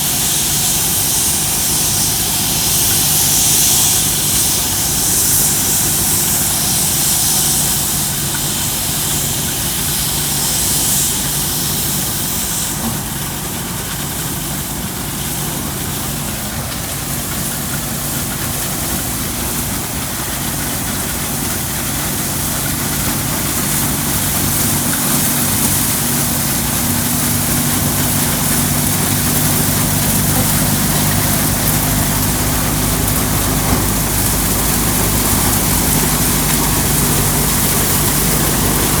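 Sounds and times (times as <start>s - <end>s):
engine running: 0.0s - 39.0s
loud rushing hiss: 0.0s - 39.0s.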